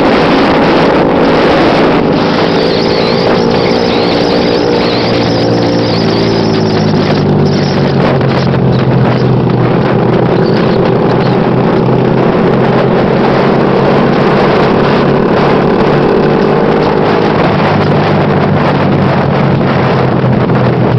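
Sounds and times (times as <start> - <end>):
vehicle engine running: 0.0 - 20.9
wind noise on microphone: 0.0 - 20.9.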